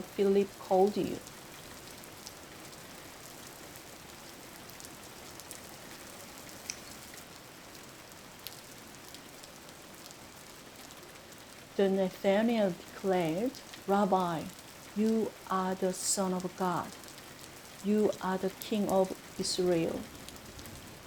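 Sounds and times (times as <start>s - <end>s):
raindrops ticking: 0.0s - 21.0s
steady rain falling: 0.0s - 21.0s.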